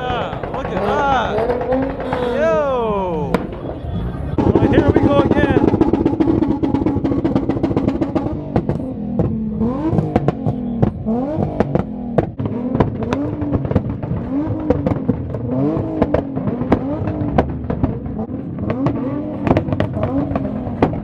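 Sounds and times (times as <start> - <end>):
sharp exhaust pops and cracks: 0.0 - 2.4, 4.4 - 21.0
car engine revving: 0.0 - 21.0.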